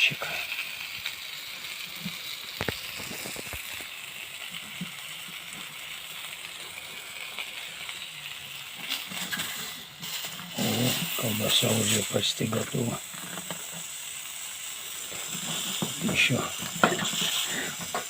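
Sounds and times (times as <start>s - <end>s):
sausage sizzling: 0.0s - 18.0s.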